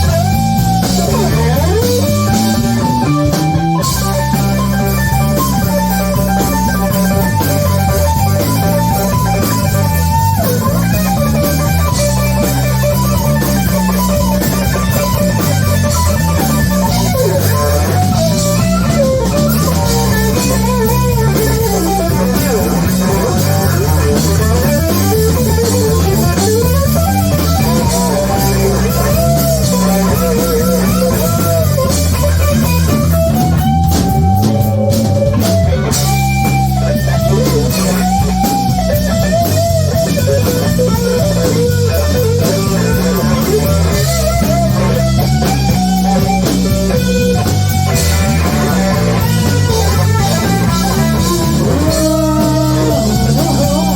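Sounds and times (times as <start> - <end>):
electric guitar sliding notes: 0.0 - 53.9
live rock band: 0.0 - 53.9.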